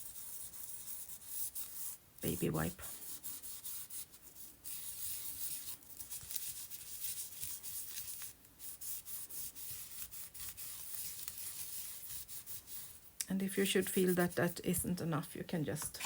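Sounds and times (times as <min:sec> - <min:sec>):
wipe rubbing on paper: 0:00.0 - 0:14.7.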